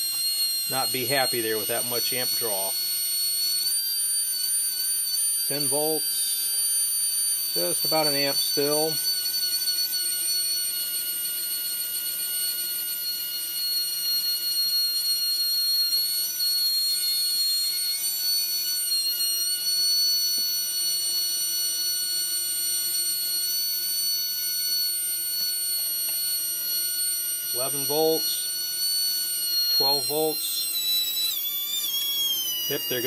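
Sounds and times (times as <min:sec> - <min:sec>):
small electric motor whining: 0:00.0 - 0:33.0.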